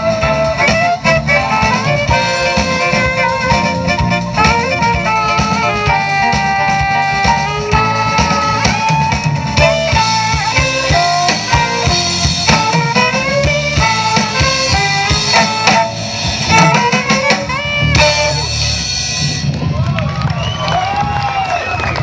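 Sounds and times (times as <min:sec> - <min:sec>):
violin melody: 0:00.0 - 0:19.4
saxophone melody: 0:00.0 - 0:19.5
drum kit beat: 0:00.0 - 0:19.8
electric bass: 0:00.0 - 0:21.1
keyboards: 0:00.0 - 0:22.0.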